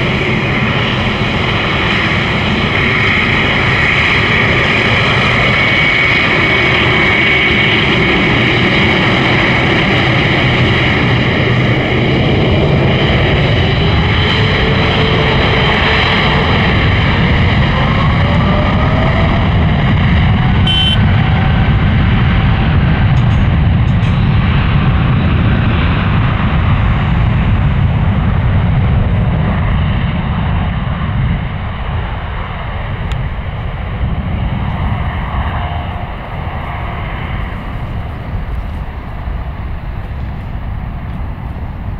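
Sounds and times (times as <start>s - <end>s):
high fan whine: 0.0s - 41.9s
jet engine roar: 0.0s - 41.9s.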